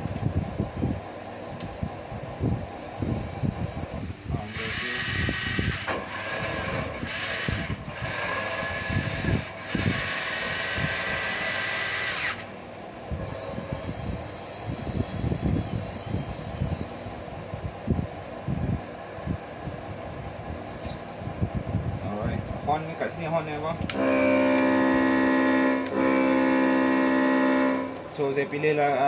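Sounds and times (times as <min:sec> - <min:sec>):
small electric motors whining: 0:00.0 - 0:12.6, 0:13.2 - 0:21.2, 0:24.0 - 0:28.7.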